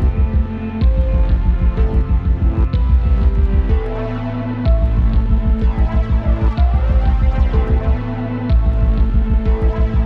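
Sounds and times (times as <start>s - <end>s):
pulsing bass music: 0.0s - 10.0s.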